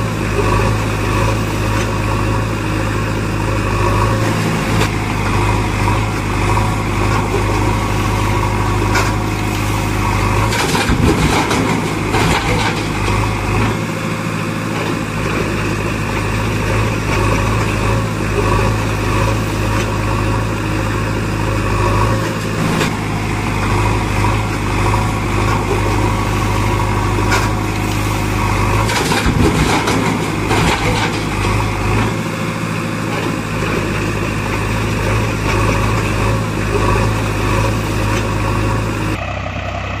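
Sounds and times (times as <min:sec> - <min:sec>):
gravel and stones clattering: 0:00.0 - 0:39.2
heavy machine engine idling: 0:00.0 - 0:40.0.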